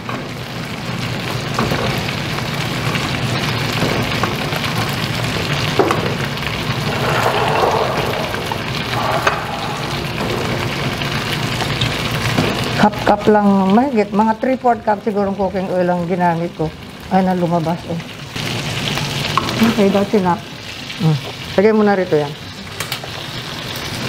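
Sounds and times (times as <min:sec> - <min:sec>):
chicken sizzling in a wok: 0:00.0 - 0:24.0.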